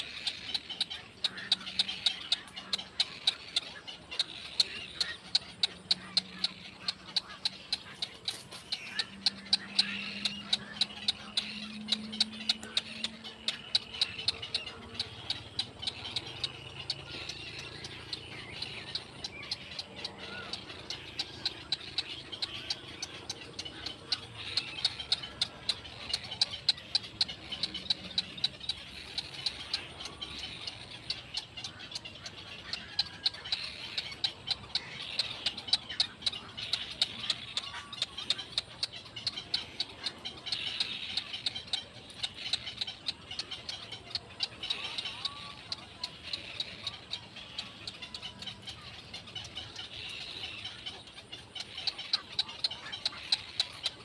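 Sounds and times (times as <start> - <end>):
bird nestlings ticking chatter: 0.0 - 54.0
faint squeaky calls: 0.0 - 54.0.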